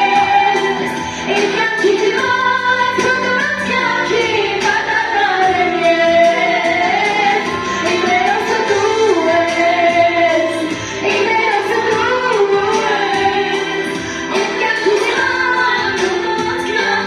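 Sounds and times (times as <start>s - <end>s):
backing track music: 0.0s - 17.0s
woman singing into a microphone: 0.0s - 17.0s.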